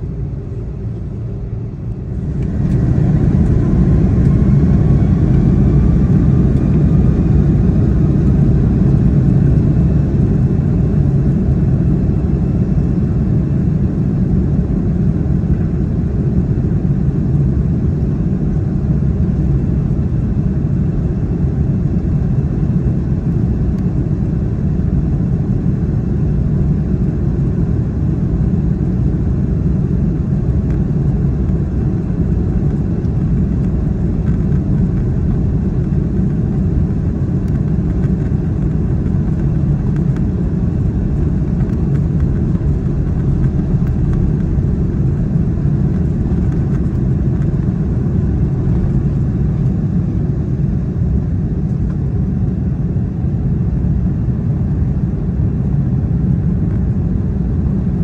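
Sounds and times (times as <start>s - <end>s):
airplane cabin rumble at takeoff: 0.0s - 58.0s.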